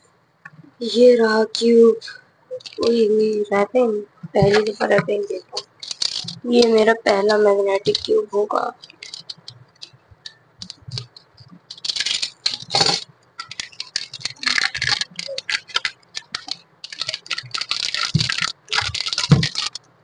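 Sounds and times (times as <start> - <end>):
plastic wrapping crinkling: 2.5 - 3.3, 4.3 - 20.0.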